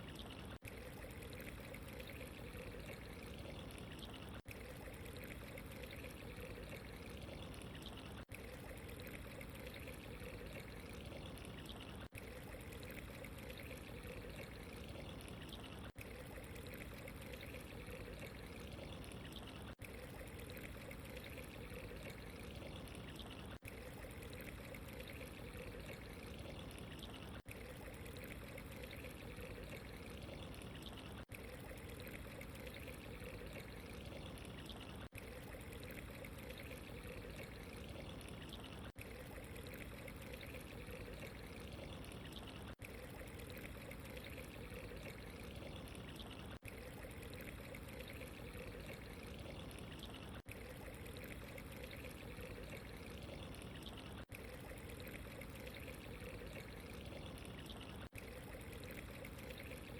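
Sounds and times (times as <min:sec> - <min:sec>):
running water trickling: 0:00.0 - 0:59.9.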